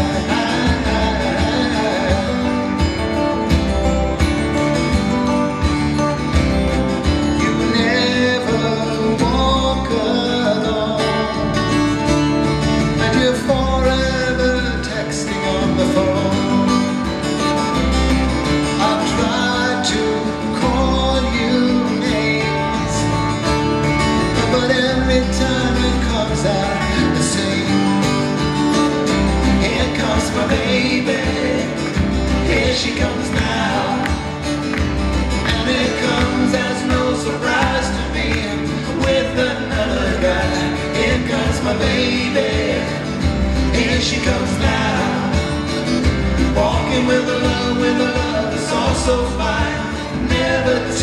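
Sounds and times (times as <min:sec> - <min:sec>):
acoustic guitars strumming: 0:00.0 - 0:51.0.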